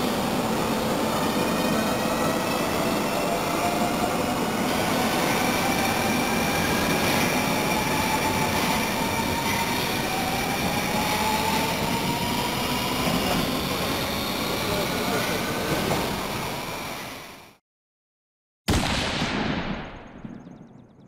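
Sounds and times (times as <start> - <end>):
electric train rumble and whine: 0.0 - 17.6.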